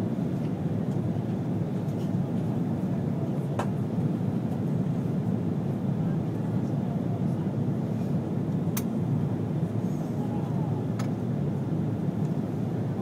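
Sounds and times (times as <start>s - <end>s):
airliner low rumble: 0.0s - 13.0s.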